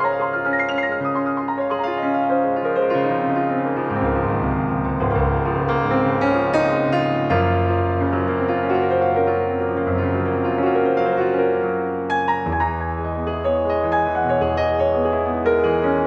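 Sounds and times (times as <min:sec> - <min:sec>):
piano-led instrumental music: 0:00.0 - 0:16.0.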